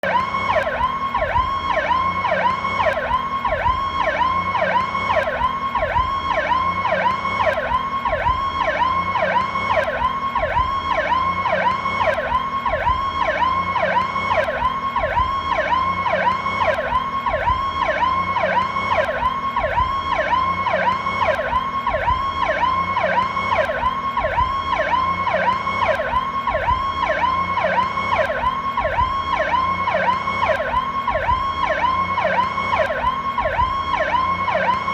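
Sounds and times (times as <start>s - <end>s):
ambulance siren yelping: 0.0s - 34.9s.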